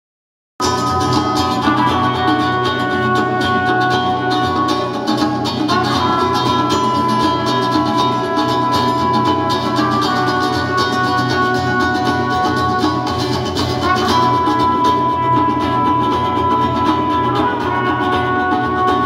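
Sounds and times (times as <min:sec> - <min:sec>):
rock band playing instrumental: 0:00.6 - 0:19.0.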